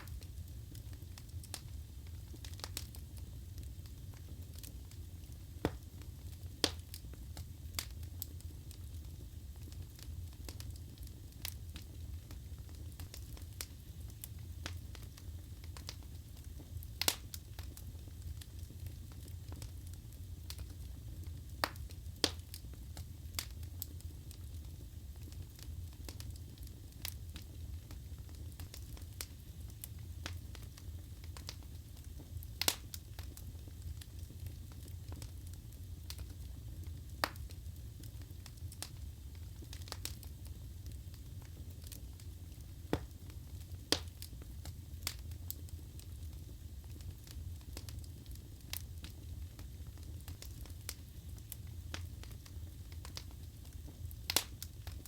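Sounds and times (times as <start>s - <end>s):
logs crackling and popping: 0.0s - 55.0s.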